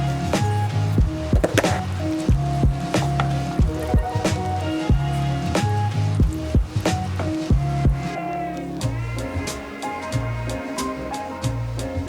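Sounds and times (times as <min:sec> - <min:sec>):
background music with drum beat: 0:00.0 - 0:08.2, 0:08.8 - 0:12.0.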